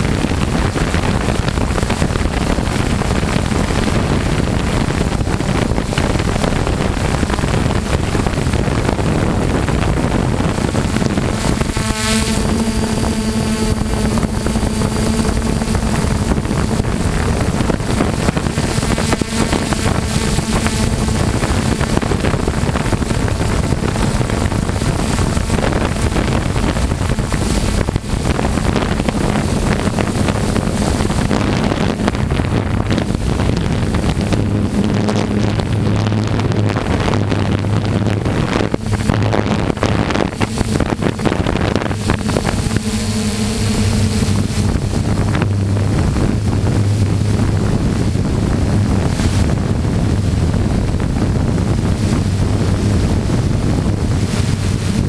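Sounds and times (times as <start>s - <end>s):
drone motors humming: 0.0s - 55.0s
wind buffeting microphone: 0.0s - 55.0s.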